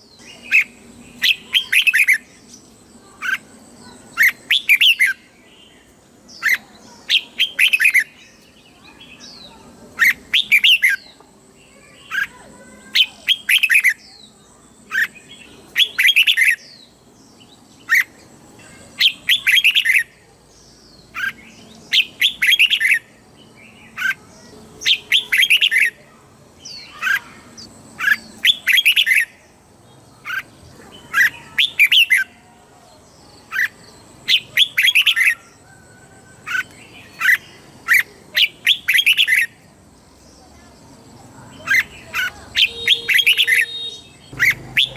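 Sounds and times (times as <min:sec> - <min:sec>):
bird singing: 0:00.0 - 0:44.9.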